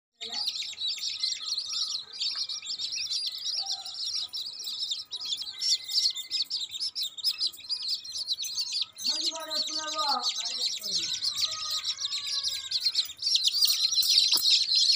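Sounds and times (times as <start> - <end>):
chicks peeping: 0.2 - 14.9.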